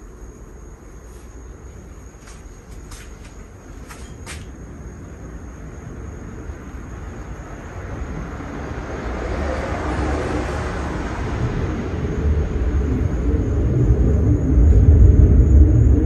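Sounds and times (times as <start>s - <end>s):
ceiling fan rumble and hiss: 0.0s - 16.0s.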